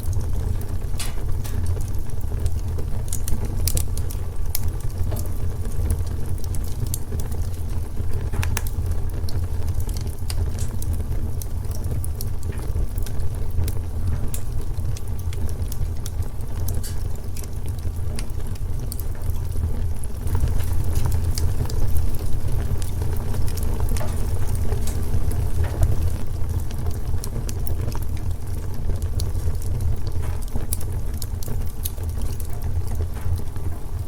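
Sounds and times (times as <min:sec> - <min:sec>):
low rumble of flames: 0:00.0 - 0:34.0
wood fire crackling and popping: 0:00.0 - 0:34.0.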